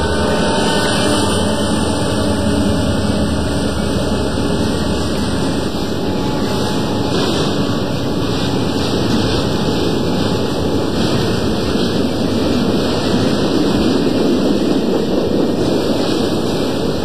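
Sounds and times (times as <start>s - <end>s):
model train wheels rumbling: 0.0s - 17.0s.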